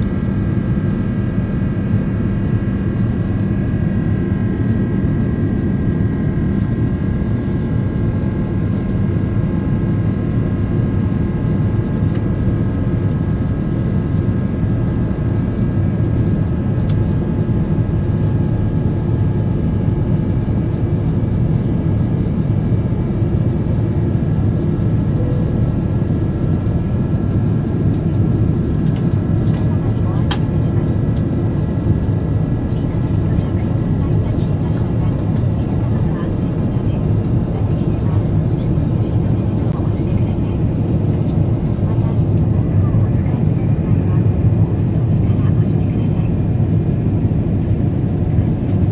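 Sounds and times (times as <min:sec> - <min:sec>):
jet engines roaring in cabin: 0:00.0 - 0:48.9.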